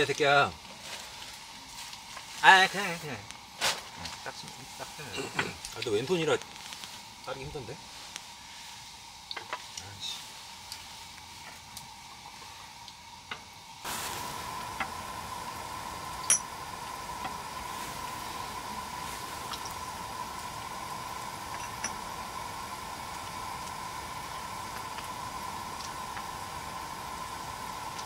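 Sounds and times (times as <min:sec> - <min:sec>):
food sizzling in a hot pan: 0:00.0 - 0:28.0.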